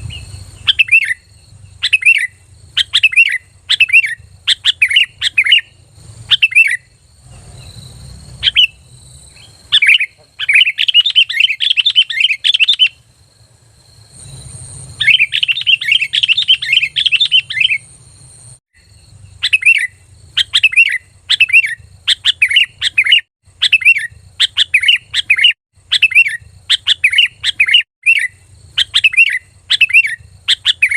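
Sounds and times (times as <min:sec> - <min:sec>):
bulbul calling: 0:00.0 - 0:13.0, 0:15.0 - 0:18.0, 0:18.8 - 0:30.9.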